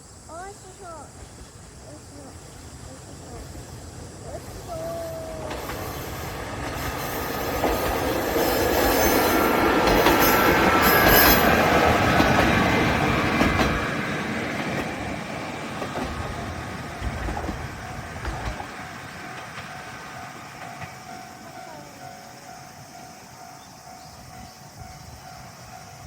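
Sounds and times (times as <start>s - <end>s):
diesel railcar passing: 0.0s - 26.0s.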